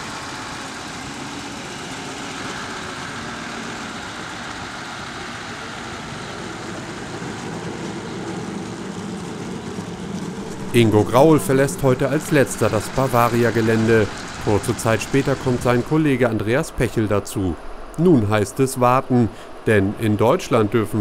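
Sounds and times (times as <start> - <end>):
truck diesel engine running: 0.0 - 18.4.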